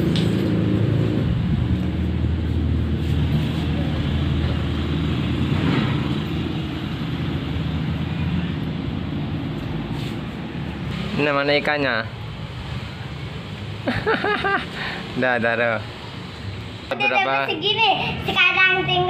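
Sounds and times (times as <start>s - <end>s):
vehicle engine rumbling: 0.0s - 16.9s.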